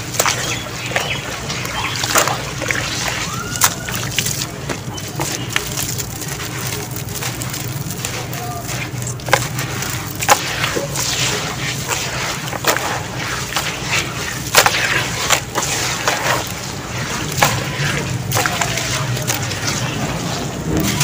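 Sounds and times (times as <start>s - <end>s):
hands squelching wet cement paste: 0.0s - 21.0s.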